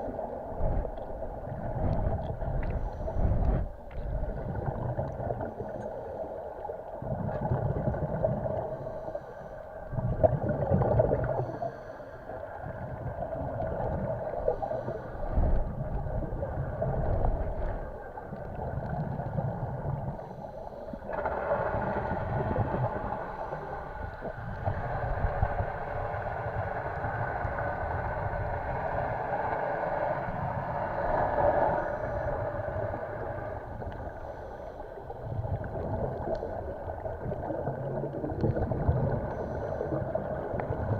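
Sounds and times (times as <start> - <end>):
steady underwater hiss: 0.0 - 40.9
underwater bubbles gurgling: 0.0 - 40.9.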